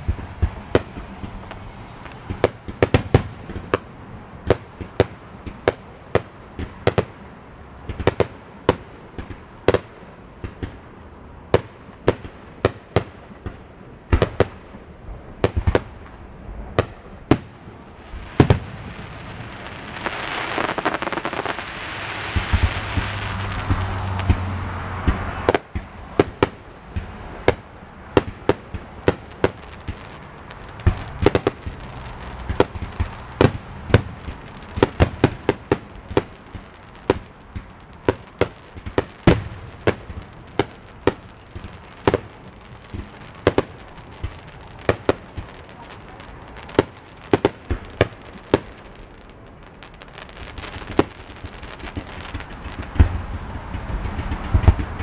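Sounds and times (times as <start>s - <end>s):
dense rush of noise: 0.0s - 12.6s, 21.5s - 50.2s, 51.1s - 55.0s
distant fireworks popping: 0.0s - 55.0s.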